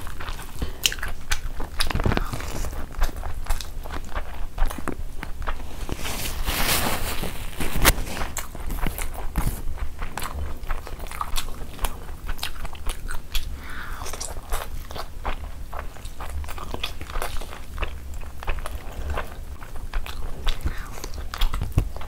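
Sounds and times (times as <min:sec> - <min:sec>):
mouth clicks and smacks: 0:00.0 - 0:05.6, 0:07.7 - 0:22.0
chewing food: 0:00.0 - 0:22.0.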